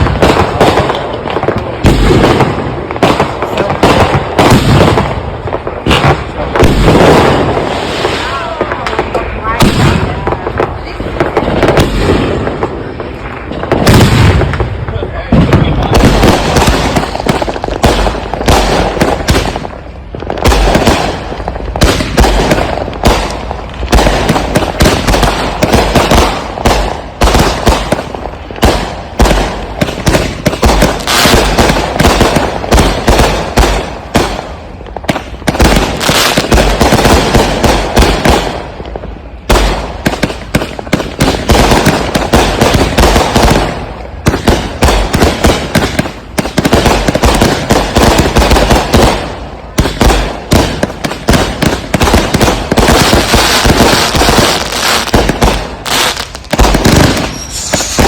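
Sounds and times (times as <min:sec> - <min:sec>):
fireworks launches and bangs: 0:00.0 - 0:58.0.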